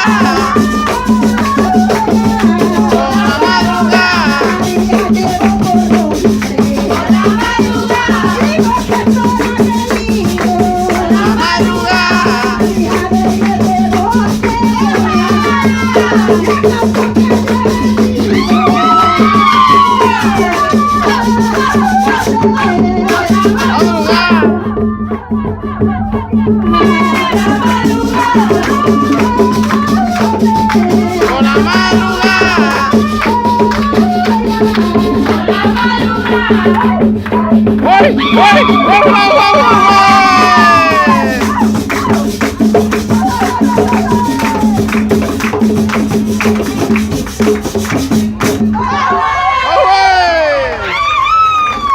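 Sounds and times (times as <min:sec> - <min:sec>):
rattling percussion rhythm: 0:00.0 - 0:49.5.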